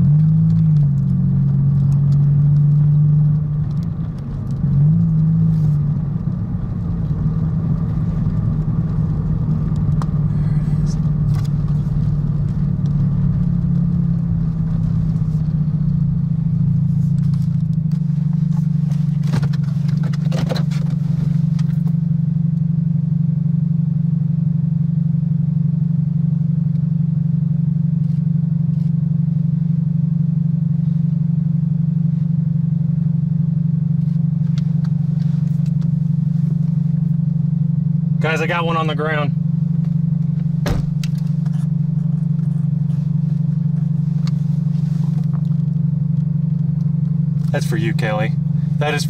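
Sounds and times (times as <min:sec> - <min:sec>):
low rumble: 0:00.0 - 0:23.5, 0:32.7 - 0:49.0
car engine droning: 0:00.0 - 0:49.0.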